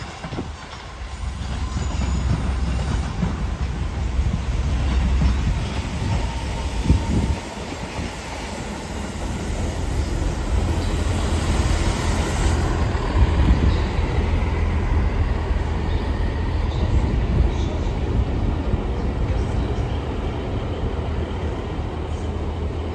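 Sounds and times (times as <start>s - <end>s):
train wheels on rails: 0.0s - 22.9s.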